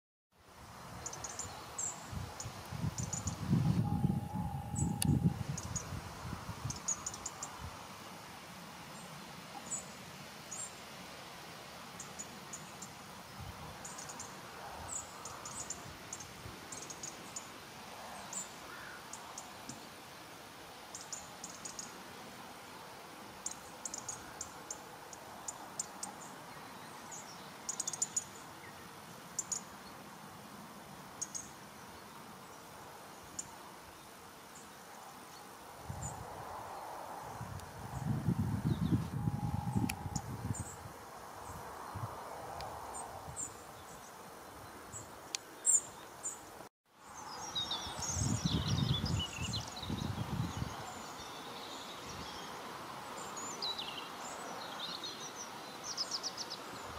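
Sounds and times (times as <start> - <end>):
faint steady hiss: 0.4 - 56.9.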